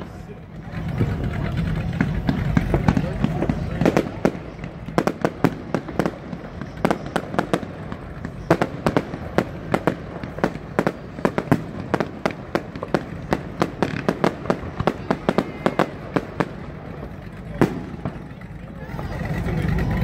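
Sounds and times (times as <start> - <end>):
fireworks exploding: 0.0 - 20.0.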